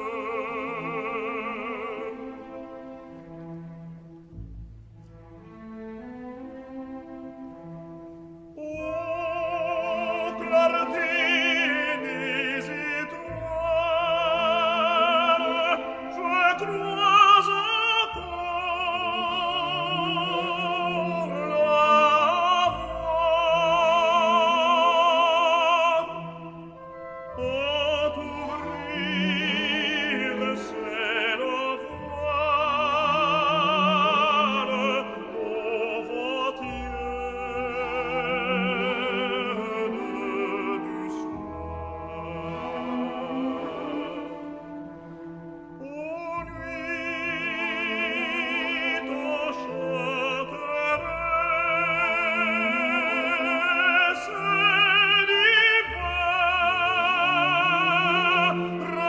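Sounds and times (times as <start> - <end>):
operatic solo voice singing: 0.0 - 3.0, 8.5 - 44.7, 45.8 - 59.0
orchestral accompaniment: 0.0 - 59.0.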